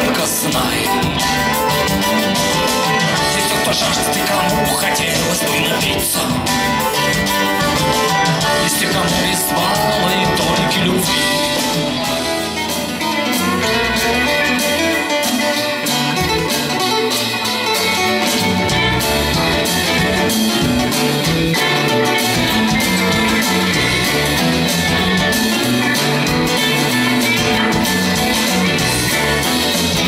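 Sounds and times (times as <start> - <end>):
bass line: 0.0 - 30.0
guitars: 0.0 - 30.0
steady drum beat: 0.0 - 30.0.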